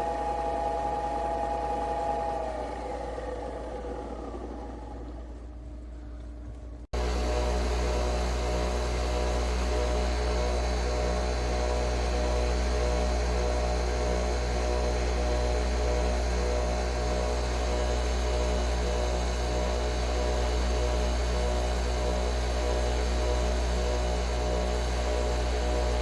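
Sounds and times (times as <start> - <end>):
capsule coffee machine humming: 0.0 - 26.0.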